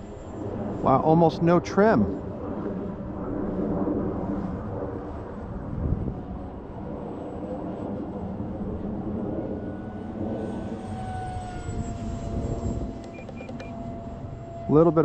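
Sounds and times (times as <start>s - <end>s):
electric ducted fan whining: 0.0s - 15.0s.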